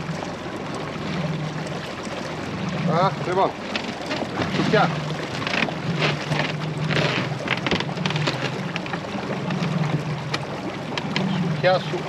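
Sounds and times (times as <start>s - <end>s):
boat motor humming: 0.0s - 12.0s
water splashes: 0.0s - 12.0s.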